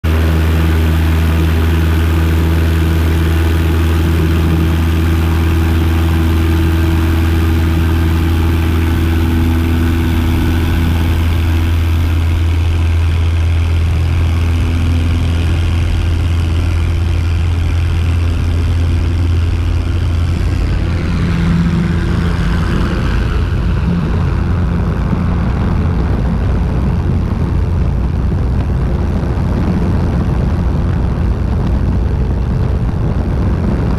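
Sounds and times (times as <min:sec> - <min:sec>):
light aircraft engine droning: 0:00.0 - 0:33.9.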